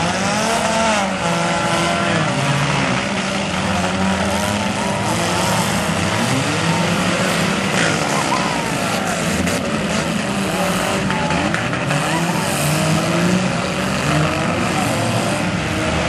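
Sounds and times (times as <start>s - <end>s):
car engines revving: 0.0s - 16.0s
cars knocking together: 0.0s - 16.0s.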